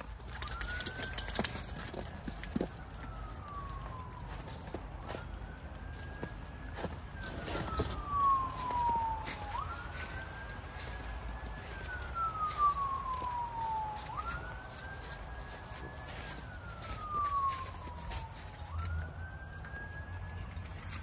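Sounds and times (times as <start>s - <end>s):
emergency siren wailing: 0.0s - 21.0s.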